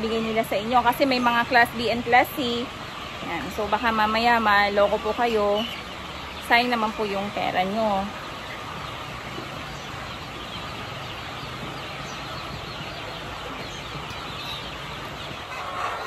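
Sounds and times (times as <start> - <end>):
flock of chickens calling: 0.0 - 16.0.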